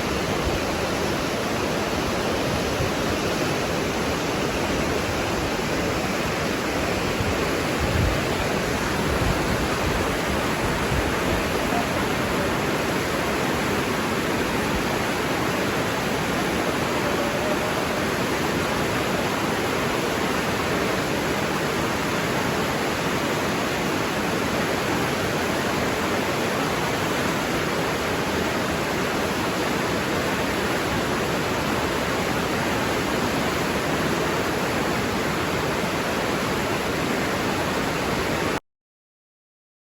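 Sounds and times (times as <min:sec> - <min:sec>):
water rushing: 0:00.0 - 0:38.6.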